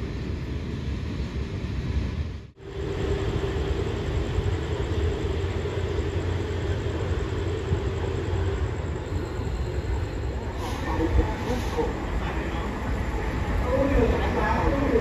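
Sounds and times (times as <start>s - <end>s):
diesel train rumbling: 0.0s - 15.0s.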